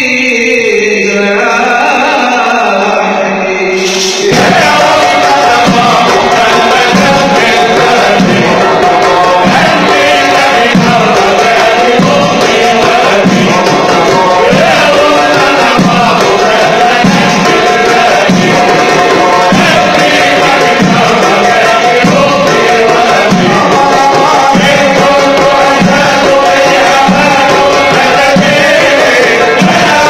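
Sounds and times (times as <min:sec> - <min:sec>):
men chanting devotional song: 0:00.0 - 0:30.0
frame drums with jingles: 0:03.8 - 0:30.0.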